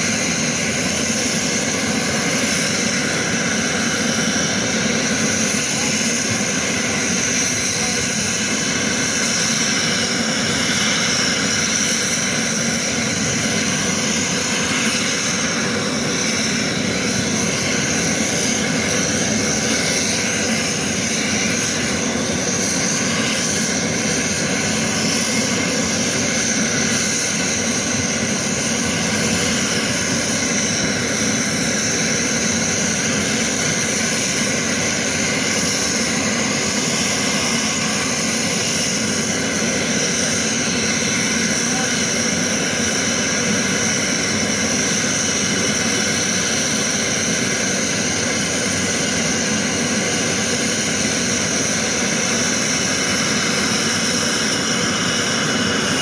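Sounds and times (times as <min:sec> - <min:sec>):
jet engines running with high whine: 0:00.0 - 0:56.0.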